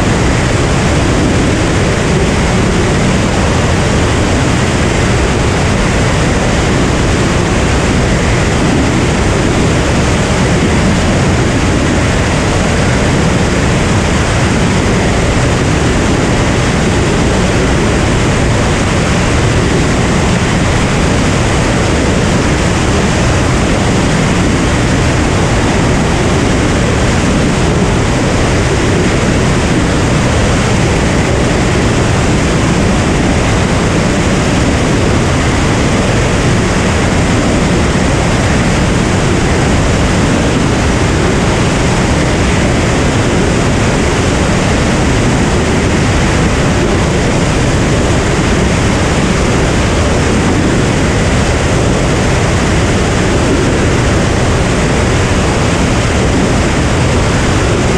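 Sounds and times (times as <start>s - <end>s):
light aircraft engine in flight: 0.0s - 57.9s.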